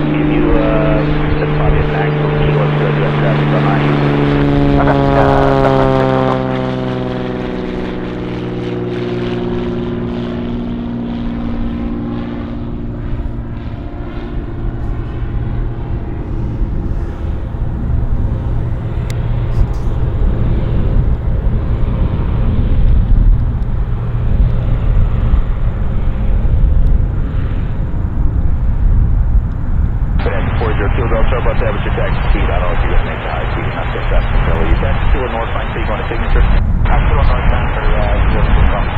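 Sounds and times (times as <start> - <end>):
low steady rumble: 0.0 - 8.1, 10.0 - 38.9
propeller plane droning past: 0.0 - 38.9.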